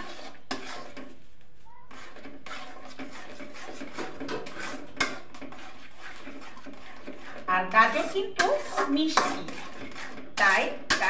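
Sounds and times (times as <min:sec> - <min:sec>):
metal spoon scraping steel pan: 0:00.0 - 0:01.3, 0:01.9 - 0:11.0.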